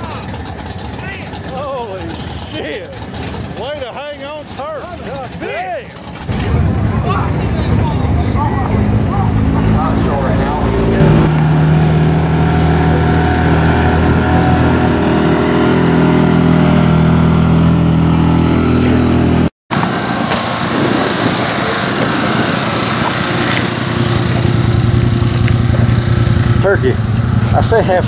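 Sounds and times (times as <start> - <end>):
drag race car engines running: 0.0 - 28.0.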